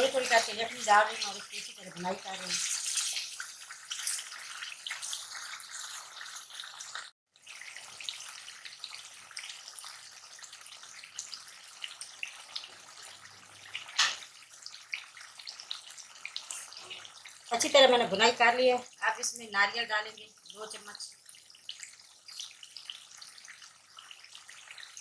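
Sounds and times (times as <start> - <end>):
gravy sizzling and bubbling: 0.0 - 25.0.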